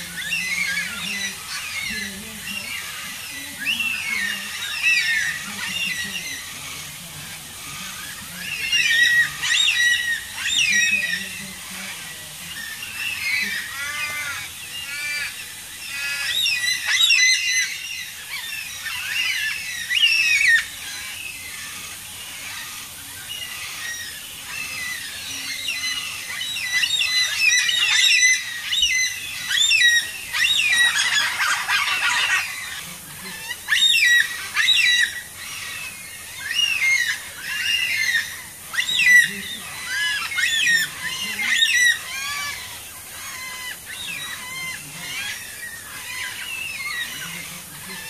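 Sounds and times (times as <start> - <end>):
cockatoos calling: 0.0 - 48.0.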